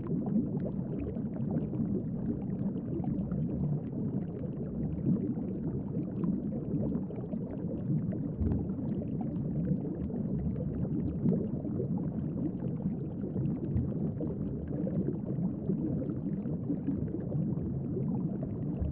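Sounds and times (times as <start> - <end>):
underwater bubbling and churning: 0.0 - 18.9.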